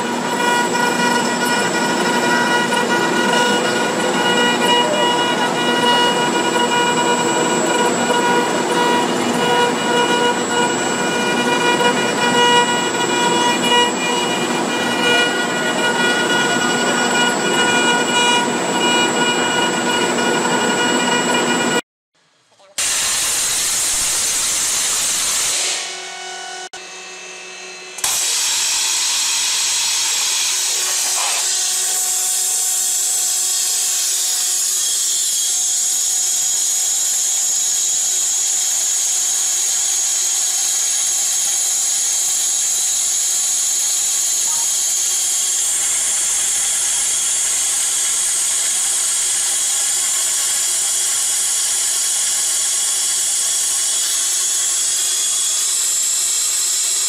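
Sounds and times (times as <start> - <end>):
waterjet cutter hissing: 0.0 - 21.8, 22.8 - 26.1, 28.0 - 57.0.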